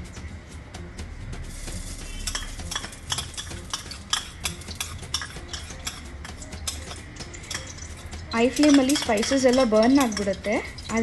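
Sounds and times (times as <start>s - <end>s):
oil sizzling: 1.3s - 11.0s.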